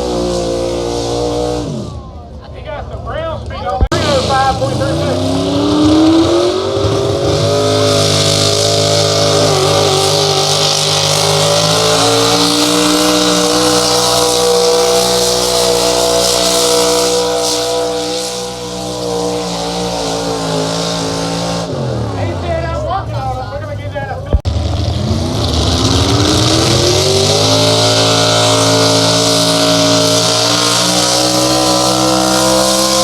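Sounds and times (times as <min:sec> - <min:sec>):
engine at high revs: 0:00.0 - 0:02.2, 0:03.8 - 0:23.0, 0:24.4 - 0:33.0.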